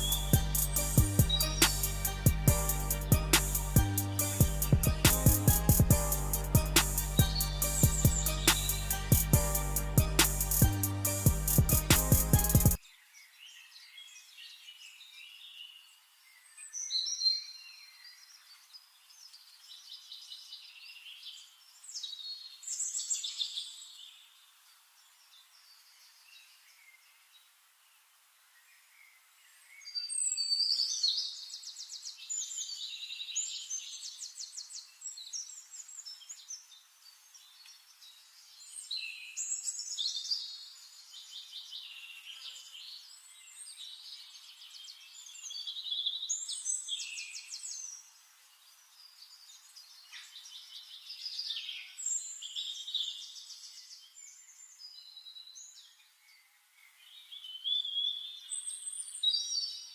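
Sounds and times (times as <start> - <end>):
songbird singing: 0.0 - 27.6, 28.5 - 59.9.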